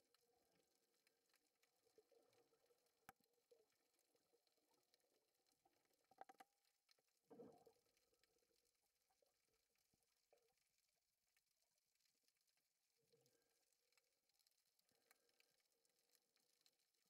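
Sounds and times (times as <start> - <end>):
faint underwater clicks and crackle: 0.0 - 17.0.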